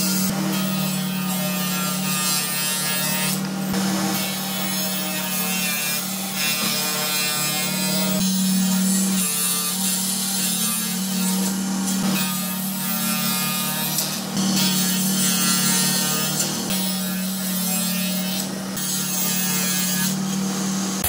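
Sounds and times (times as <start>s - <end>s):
table saw cutting plywood: 0.0s - 21.0s.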